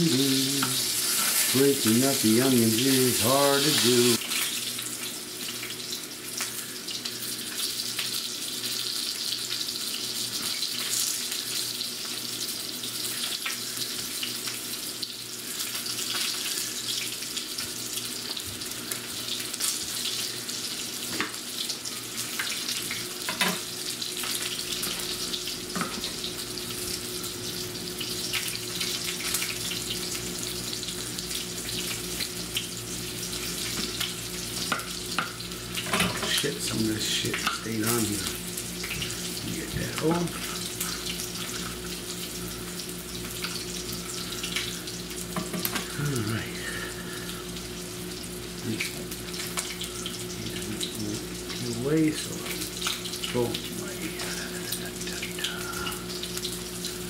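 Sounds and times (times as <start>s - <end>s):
sausages sizzling in frying pan: 0.0s - 57.0s.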